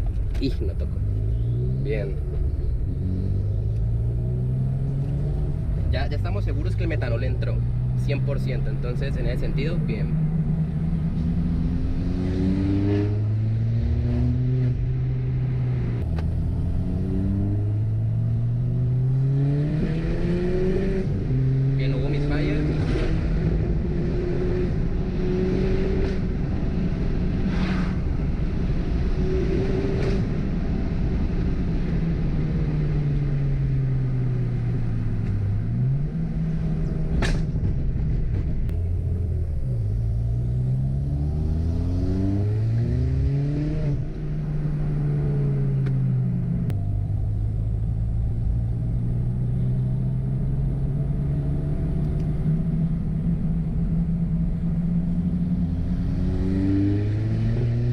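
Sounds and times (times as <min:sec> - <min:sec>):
car engine revving: 0:00.0 - 0:30.6, 0:31.4 - 0:57.9.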